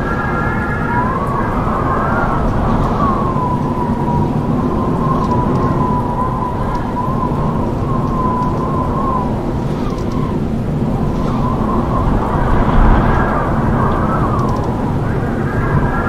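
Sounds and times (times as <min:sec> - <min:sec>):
high whistling tones: 0:00.0 - 0:16.0
howling wind: 0:00.0 - 0:16.0.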